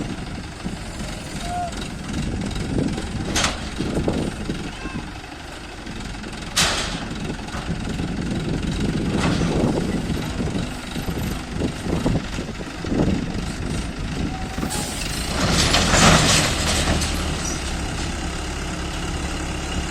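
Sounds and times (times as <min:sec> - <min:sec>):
crane diesel engine running: 0:00.0 - 0:19.9.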